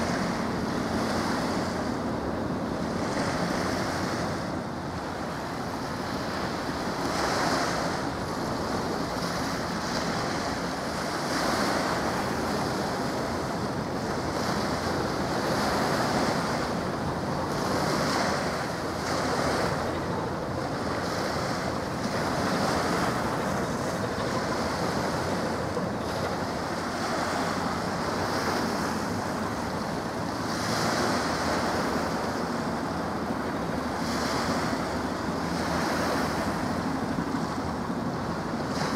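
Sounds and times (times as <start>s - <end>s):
open water: 0.0s - 38.9s
wind on microphone: 0.0s - 38.9s.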